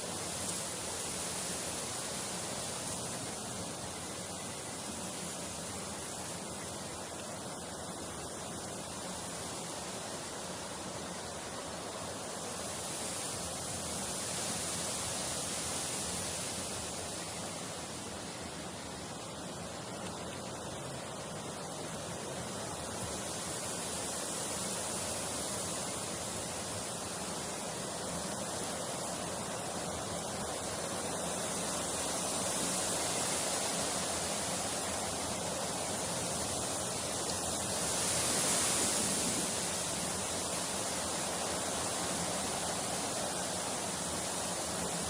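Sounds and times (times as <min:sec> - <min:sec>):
steady rushing hiss: 0:00.0 - 0:45.0.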